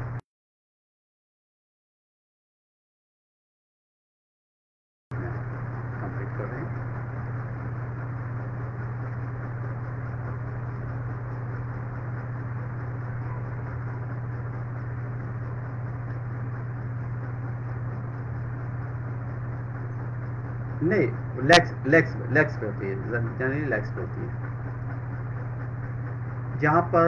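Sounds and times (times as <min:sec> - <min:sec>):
steady low hum: 0:00.0 - 0:00.2, 0:05.1 - 0:27.0.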